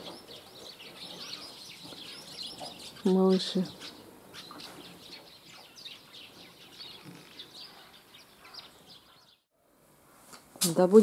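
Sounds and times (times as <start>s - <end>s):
small birds chattering: 0.0s - 9.5s.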